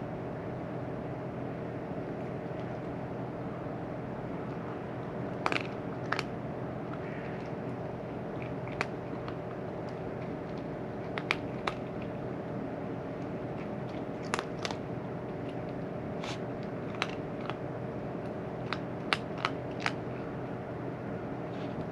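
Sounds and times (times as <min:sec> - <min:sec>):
steady background hum: 0:00.0 - 0:21.9
cat crunching dry food: 0:02.0 - 0:20.8.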